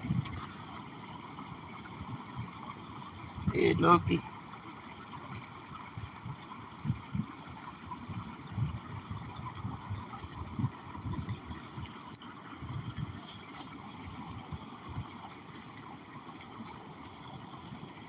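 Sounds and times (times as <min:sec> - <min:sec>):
stream trickling over rocks: 0:00.0 - 0:18.0.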